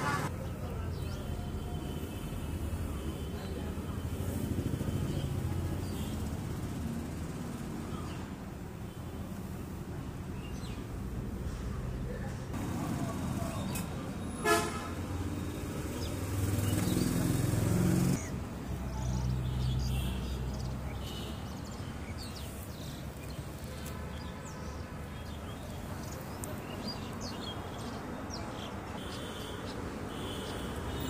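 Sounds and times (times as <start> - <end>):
distant traffic rumble: 0.0 - 31.0.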